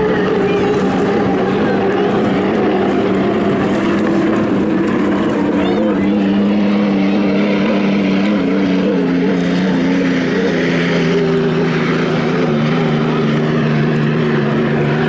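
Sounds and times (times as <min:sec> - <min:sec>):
turbine boat engines droning: 0:00.0 - 0:15.0.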